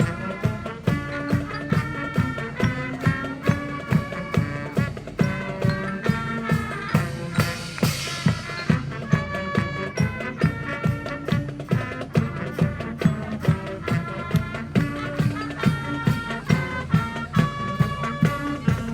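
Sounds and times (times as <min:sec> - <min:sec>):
brass and winds holding notes: 0:00.0 - 0:18.9
march drum beat: 0:00.0 - 0:18.9.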